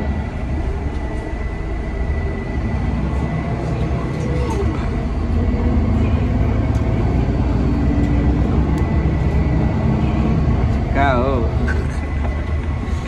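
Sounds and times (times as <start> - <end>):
bus engine and road rumble: 0.0 - 13.0
faint steady whine: 0.0 - 13.0.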